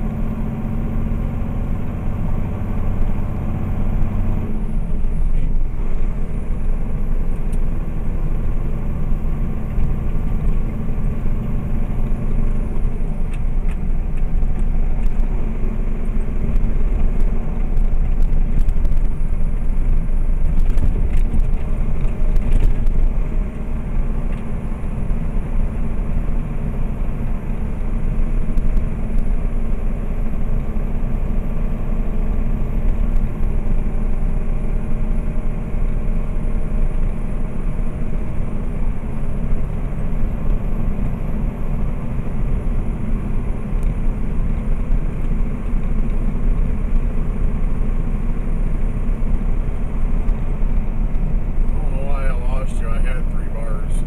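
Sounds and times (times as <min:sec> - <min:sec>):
diesel engine: 0:00.0 - 0:54.0
tyre and road rumble: 0:00.0 - 0:54.0.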